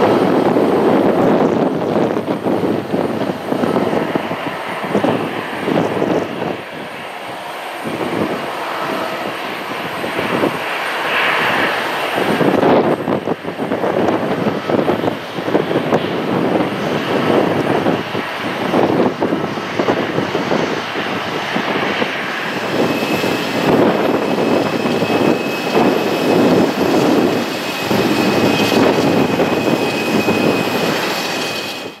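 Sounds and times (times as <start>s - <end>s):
jet engines idling: 0.0s - 32.0s
steady high whine: 0.0s - 32.0s.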